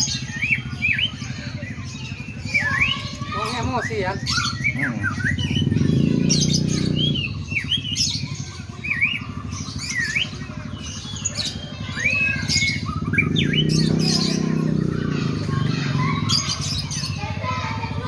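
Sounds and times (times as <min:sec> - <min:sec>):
bird singing whistled notes: 0:00.0 - 0:14.7.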